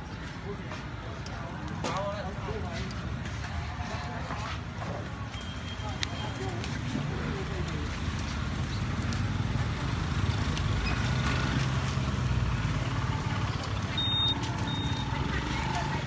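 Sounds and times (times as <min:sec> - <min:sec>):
charcoal crackling in a grill: 0:00.0 - 0:16.0.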